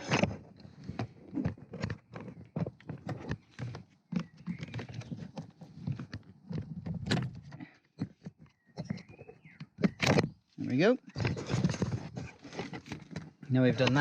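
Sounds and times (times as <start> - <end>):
plastic panel clicks and rattles: 0.0 - 10.5, 11.1 - 14.0.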